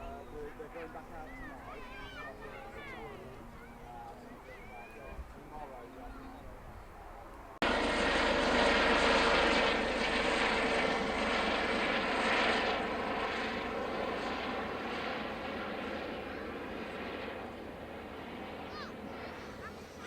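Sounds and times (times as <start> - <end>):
aircraft engines rushing: 0.0 - 20.0.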